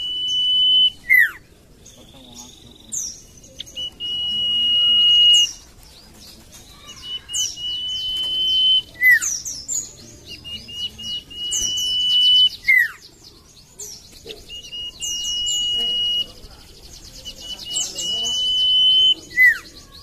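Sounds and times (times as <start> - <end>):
bird singing whistles and chirps: 0.0 - 20.0.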